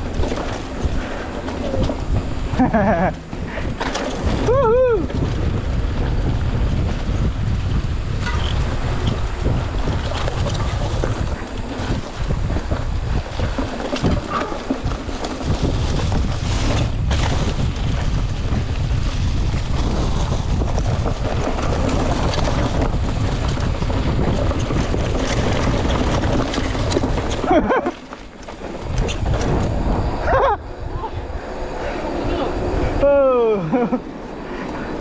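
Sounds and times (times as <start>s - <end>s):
rattles and clicks: 0.0s - 7.3s, 8.1s - 30.0s
wind buffeting microphone: 0.0s - 35.0s.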